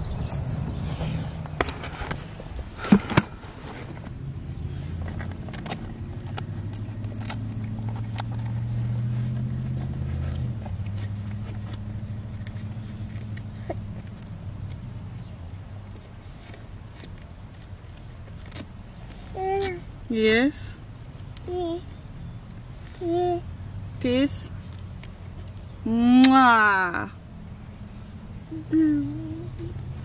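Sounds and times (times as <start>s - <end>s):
car engine humming: 0.0s - 30.0s.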